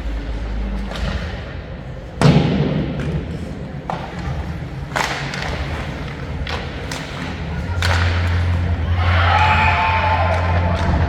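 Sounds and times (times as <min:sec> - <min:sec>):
hockey knocks and clacks: 0:00.0 - 0:11.0.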